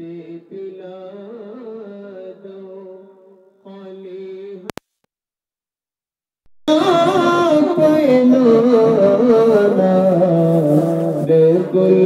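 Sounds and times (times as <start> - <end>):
voices singing devotional song: 0.0 - 4.7, 6.7 - 12.0.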